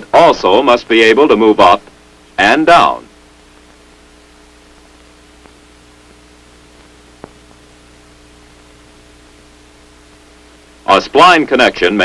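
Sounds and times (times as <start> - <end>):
film soundtrack hiss and hum: 0.0 - 12.0.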